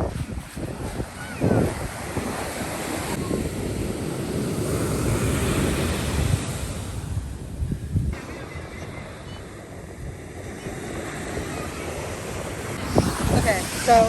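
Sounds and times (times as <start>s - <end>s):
wind noise on microphone: 0.0s - 8.2s, 9.7s - 14.0s
ocean surf washing on beach: 0.0s - 14.0s.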